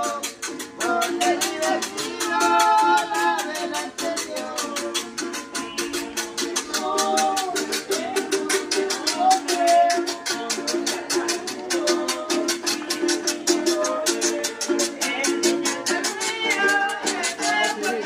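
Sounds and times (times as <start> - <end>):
maracas shaking: 0.0 - 18.0
strummed string instruments: 0.0 - 18.0
voices singing: 0.0 - 18.0.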